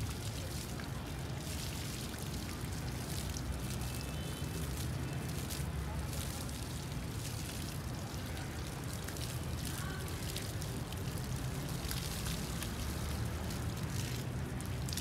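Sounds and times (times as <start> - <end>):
hose water splashing on hide: 0.0 - 15.0.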